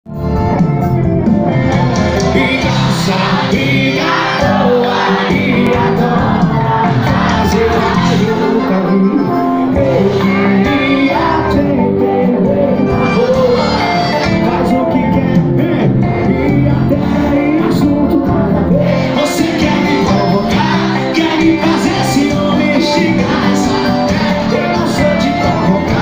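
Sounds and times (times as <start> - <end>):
live band with singer: 0.1 - 26.0.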